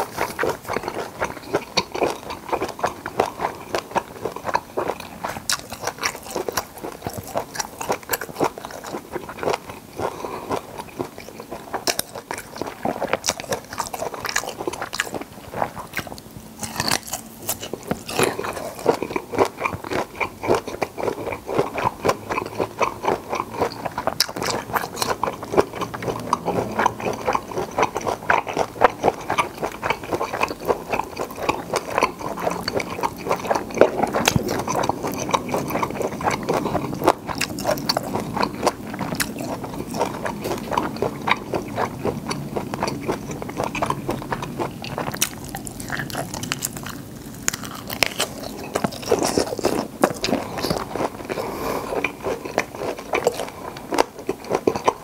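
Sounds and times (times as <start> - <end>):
chewing with wet mouth clicks: 0.0 - 55.0
soft crunching: 0.0 - 55.0.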